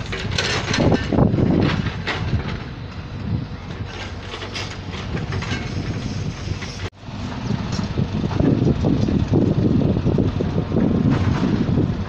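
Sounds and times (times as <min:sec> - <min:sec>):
train rumbling on track: 0:00.0 - 0:12.0
wheels clattering over rail joints: 0:00.0 - 0:12.0.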